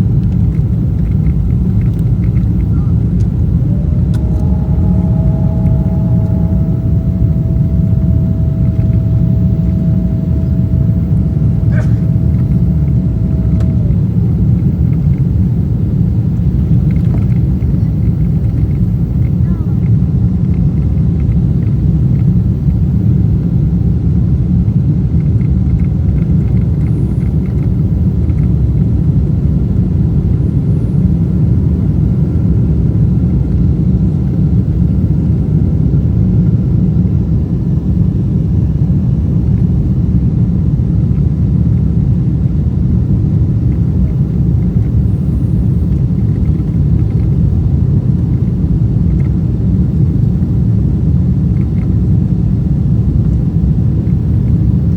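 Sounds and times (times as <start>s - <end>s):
airplane cabin rumble: 0.0s - 54.9s.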